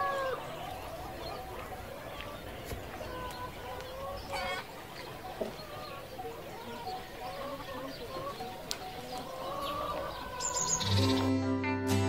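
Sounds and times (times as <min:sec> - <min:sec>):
chickens clucking: 0:00.0 - 0:11.3
birds calling: 0:00.0 - 0:11.5.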